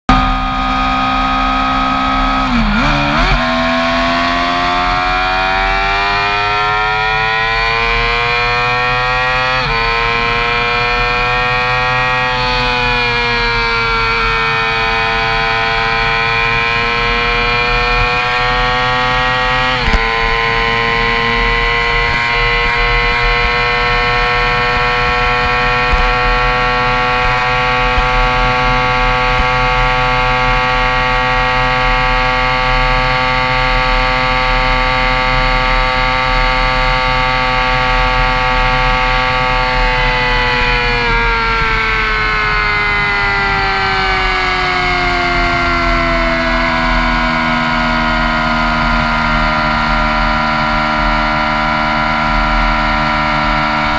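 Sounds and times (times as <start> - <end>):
high-pitched motorcycle engine: 0.1 - 53.9.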